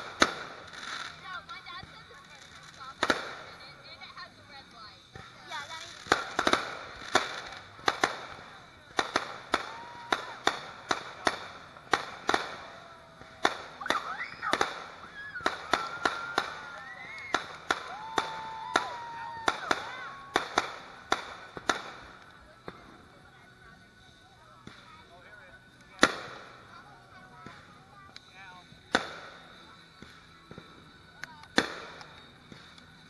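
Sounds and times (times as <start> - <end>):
fireworks bangs: 0.0 - 3.8, 5.1 - 23.0, 26.0 - 26.7, 28.7 - 33.0.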